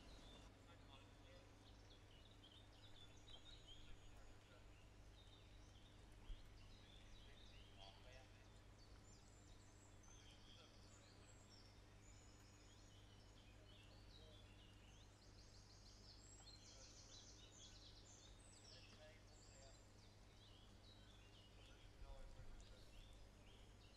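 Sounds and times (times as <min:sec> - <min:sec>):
low background hum: 0:00.0 - 0:23.9
songbirds chirping and trilling: 0:00.0 - 0:23.9.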